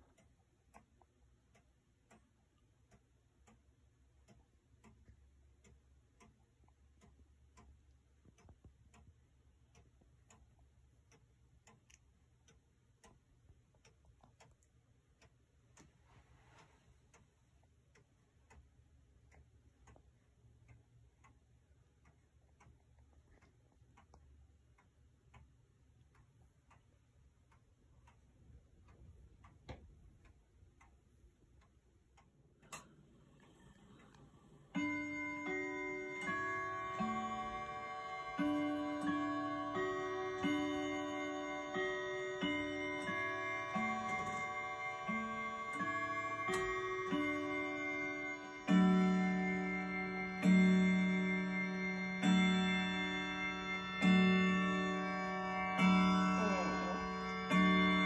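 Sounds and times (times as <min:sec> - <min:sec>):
clock ticking: 0:00.0 - 0:58.0.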